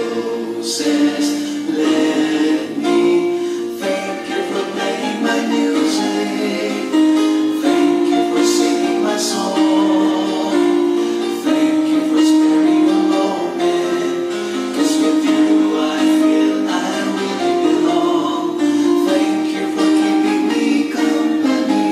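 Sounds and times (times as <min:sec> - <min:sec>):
song with sung vocals: 0:00.0 - 0:21.9.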